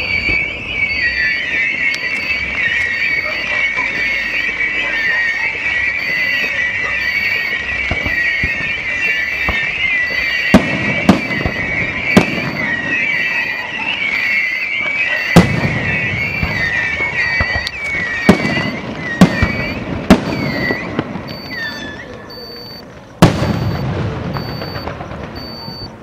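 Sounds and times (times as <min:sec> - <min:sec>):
fireworks bursting bangs: 0:00.0 - 0:26.0
whistling fireworks: 0:00.0 - 0:26.0.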